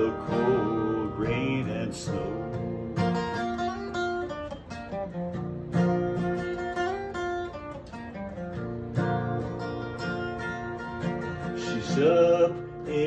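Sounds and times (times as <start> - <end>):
acoustic guitar picking and strumming: 0.0 - 13.0.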